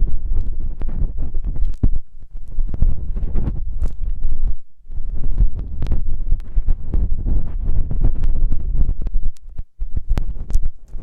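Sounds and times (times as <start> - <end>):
crackles and clicks: 0.0 - 11.0
deep rumble: 0.0 - 11.0
rubbing on microphone: 0.0 - 11.0.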